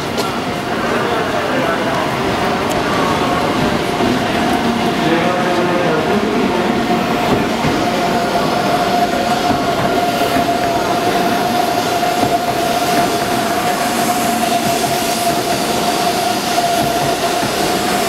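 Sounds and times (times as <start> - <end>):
train rolling past: 0.0 - 18.0.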